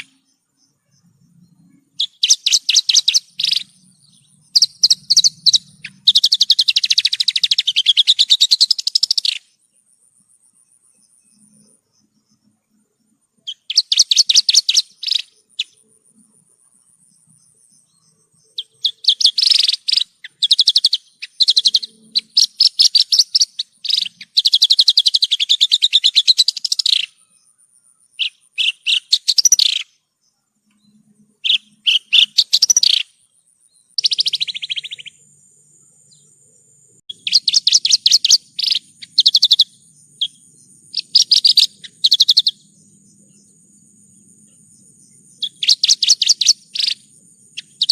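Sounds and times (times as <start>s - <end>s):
lark singing trills: 0.0s - 9.6s, 13.4s - 15.9s, 17.1s - 30.0s, 30.7s - 47.9s.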